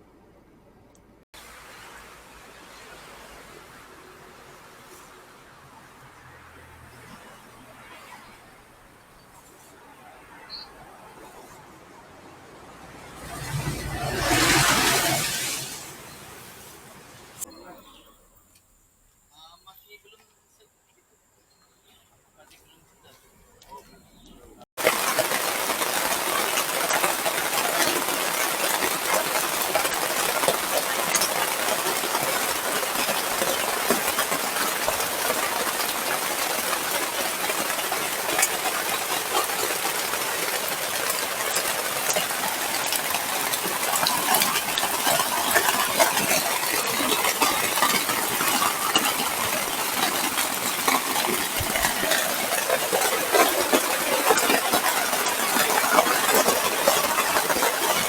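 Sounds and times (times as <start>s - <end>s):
heavy rain falling: 1.4s - 8.9s, 9.5s - 17.5s, 24.8s - 58.0s.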